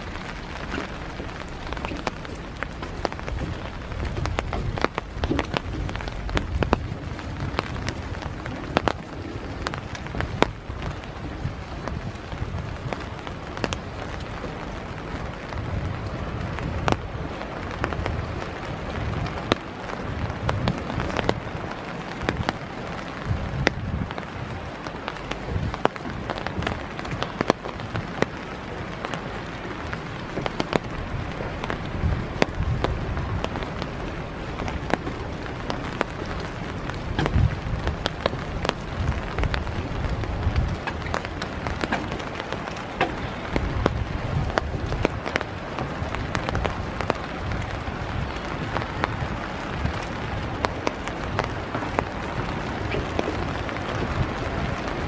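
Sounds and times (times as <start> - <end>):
footsteps on wet wooden boardwalk: 0.0 - 55.0
rain falling: 0.0 - 55.0
sharp raindrop ticks: 0.0 - 55.0.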